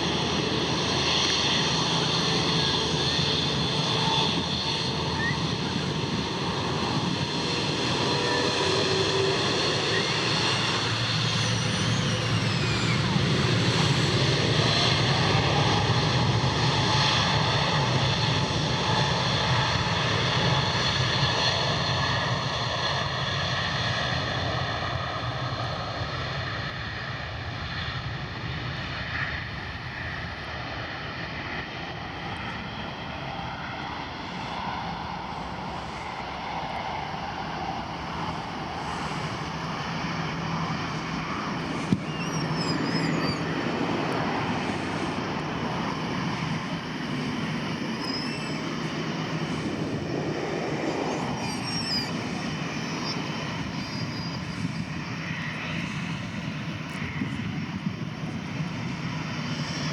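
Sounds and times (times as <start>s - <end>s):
airplane engines whining: 0.0s - 59.9s.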